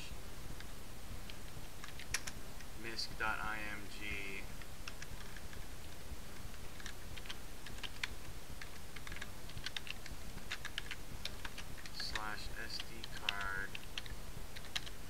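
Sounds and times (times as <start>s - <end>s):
low background hum: 0.0s - 15.0s
keyboard typing: 1.3s - 2.4s, 4.0s - 15.0s.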